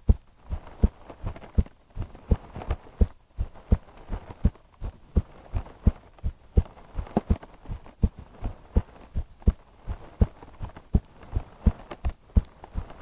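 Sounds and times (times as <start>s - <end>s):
human heartbeat: 0.0s - 13.0s.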